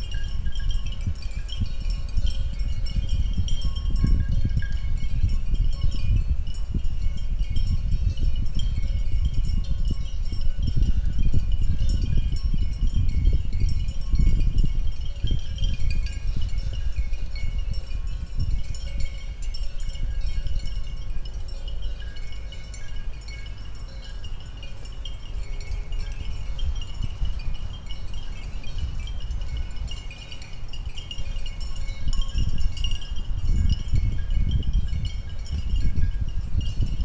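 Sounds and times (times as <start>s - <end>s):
high-pitched tinkling: 0.0s - 37.0s
wind buffeting microphone: 0.0s - 37.0s.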